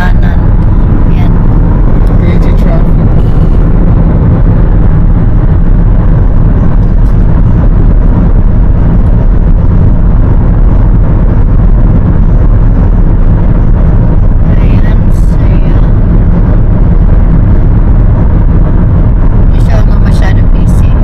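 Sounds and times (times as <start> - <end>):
car interior highway rumble: 0.0 - 21.0.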